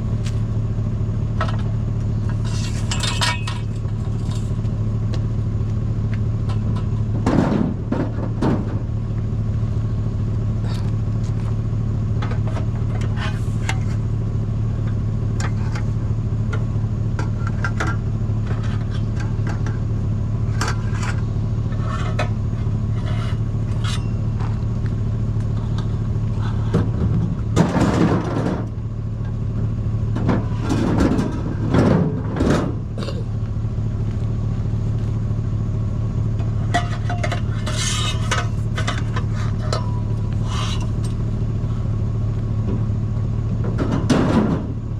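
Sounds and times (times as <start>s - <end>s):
vehicle engine and road drone: 0.0s - 44.9s.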